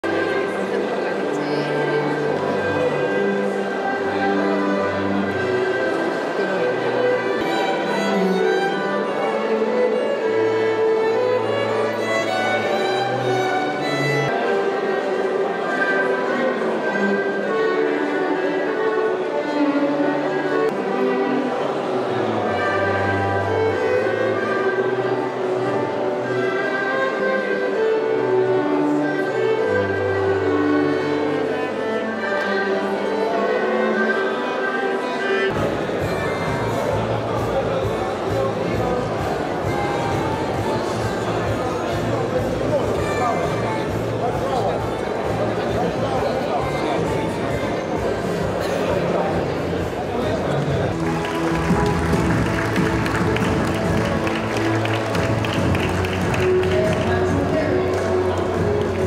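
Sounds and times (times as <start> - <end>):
cello long held notes: 0.0 - 59.0
violins playing classical music: 0.0 - 59.0.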